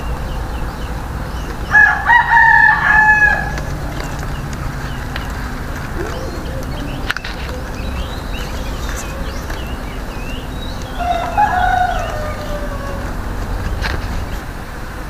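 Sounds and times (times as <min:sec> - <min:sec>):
rooster crowing: 0:01.6 - 0:13.8.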